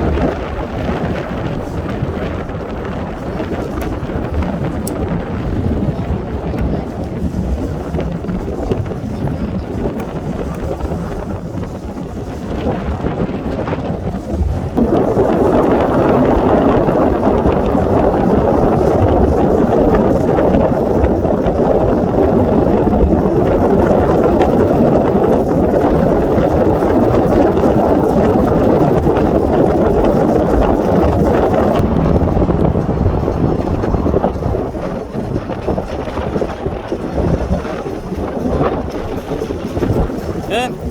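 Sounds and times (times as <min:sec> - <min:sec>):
steady rushing noise: 0:00.0 - 0:40.9
wind rumbling on microphone: 0:00.0 - 0:40.9.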